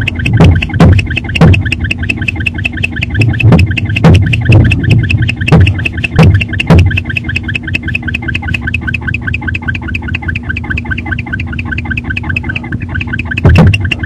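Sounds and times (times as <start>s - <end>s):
owl clicking calls: 0.0s - 14.0s.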